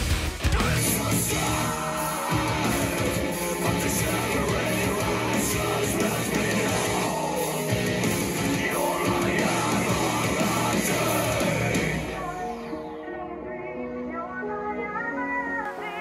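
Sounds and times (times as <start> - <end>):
rock music: 0.0 - 13.6.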